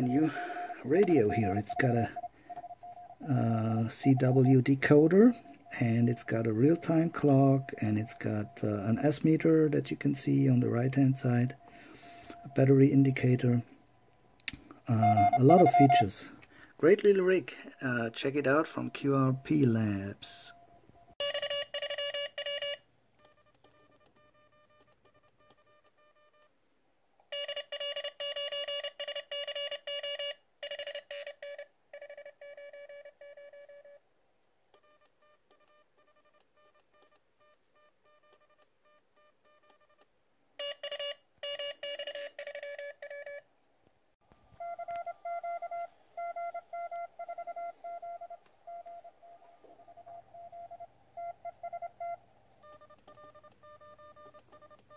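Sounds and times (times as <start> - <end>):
morse code tones: 0.0 - 13.8, 14.8 - 26.5, 27.3 - 34.0, 40.6 - 43.4, 44.6 - 54.9.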